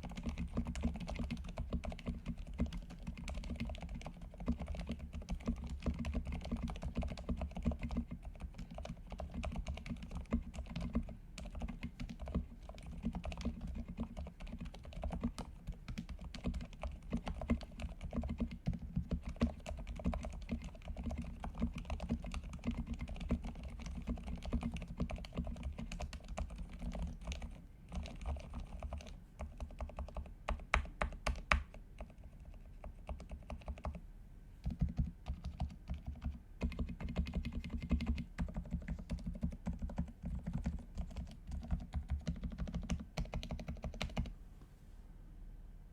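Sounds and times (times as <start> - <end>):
mechanical keyboard typing: 0.0 - 34.0, 34.6 - 44.3.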